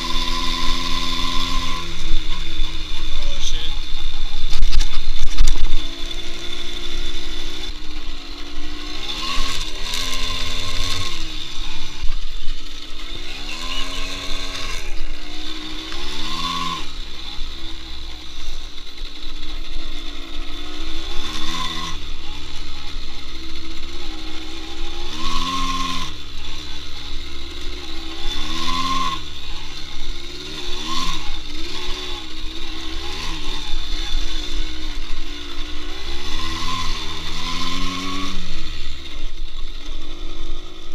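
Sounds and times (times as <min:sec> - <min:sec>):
moped engine revving: 0:00.0 - 0:40.9.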